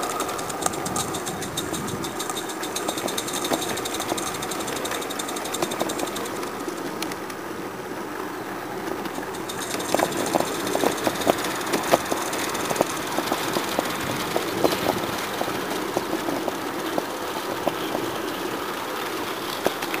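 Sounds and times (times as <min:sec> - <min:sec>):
steam hiss and chuff: 0:00.0 - 0:20.0
wheels clicking on rails: 0:00.0 - 0:20.0.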